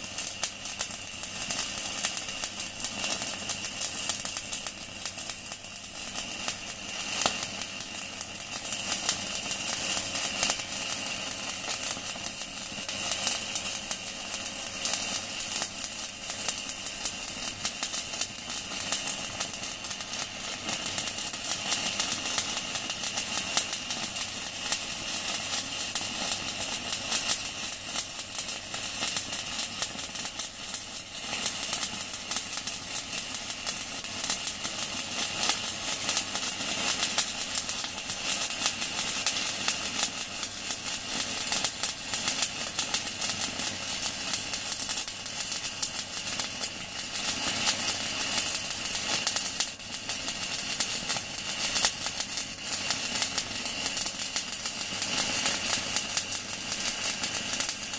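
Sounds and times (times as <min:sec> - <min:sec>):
welding arc crackling: 0:00.0 - 0:57.9.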